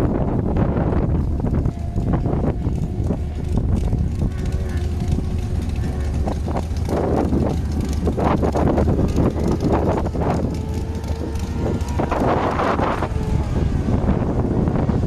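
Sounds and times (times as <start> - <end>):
race car engine: 0.0 - 15.0
wind buffeting microphone: 0.0 - 15.0.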